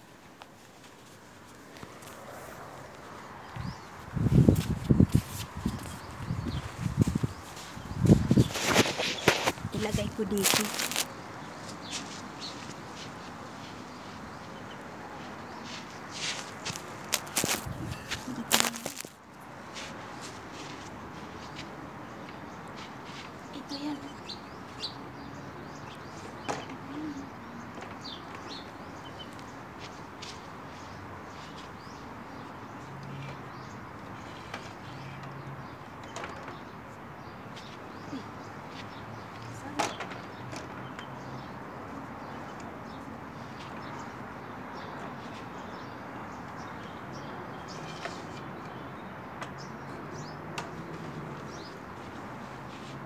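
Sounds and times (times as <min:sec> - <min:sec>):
small birds chirping: 0:01.0 - 0:53.0.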